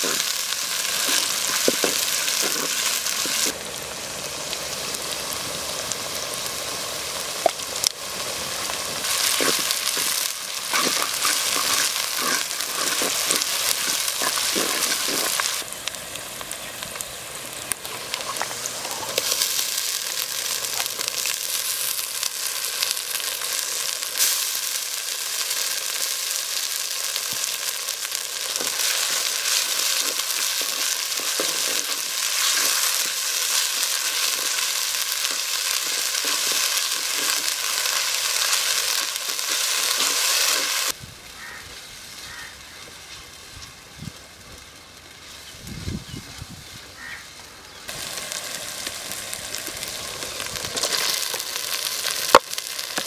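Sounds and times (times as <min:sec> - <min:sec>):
vegetables sizzling in hot oil: 0:00.0 - 0:53.0.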